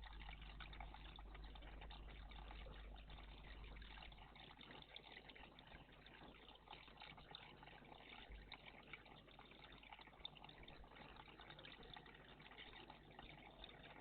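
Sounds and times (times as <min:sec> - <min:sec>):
faint trickle of water: 0:00.0 - 0:14.0.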